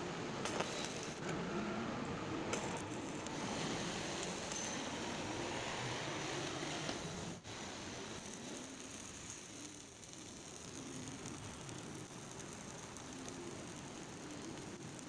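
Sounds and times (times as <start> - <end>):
arc welding crackling: 0.0 - 1.3, 2.2 - 15.0.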